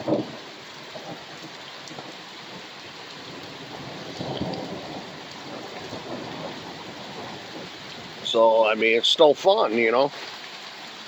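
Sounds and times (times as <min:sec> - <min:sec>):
thunder rumbling: 0:00.0 - 0:09.2
heavy rain falling: 0:00.0 - 0:11.0.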